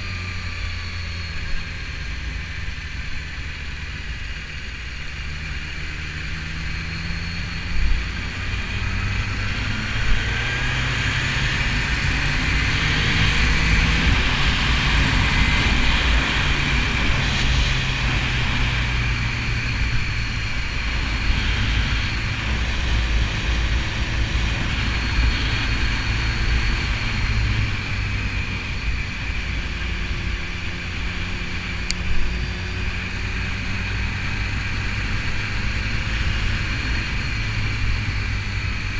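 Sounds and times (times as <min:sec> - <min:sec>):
motorcycle engine revving: 0:00.0 - 0:38.9
wind noise on microphone: 0:05.2 - 0:38.9.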